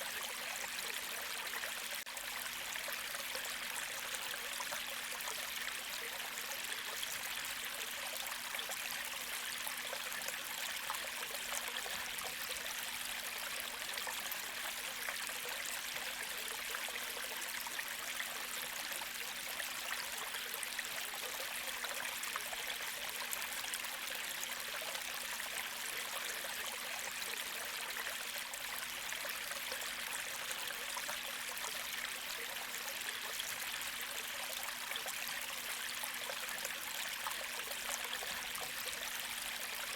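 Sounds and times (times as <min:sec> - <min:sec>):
creek flowing: 0:00.0 - 0:39.9.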